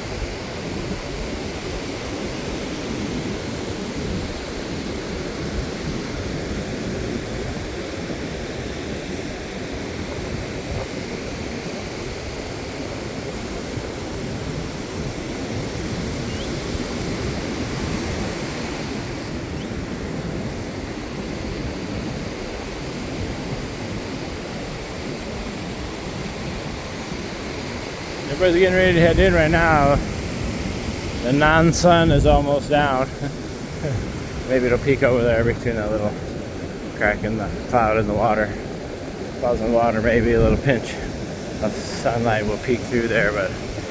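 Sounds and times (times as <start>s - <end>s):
ocean surf washing: 0.0s - 43.9s.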